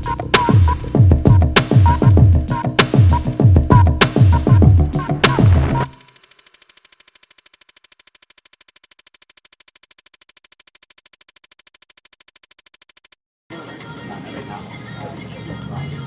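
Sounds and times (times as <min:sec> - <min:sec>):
electronic music beat: 0:00.0 - 0:13.2
synthesized pulse of ticks: 0:00.0 - 0:13.2.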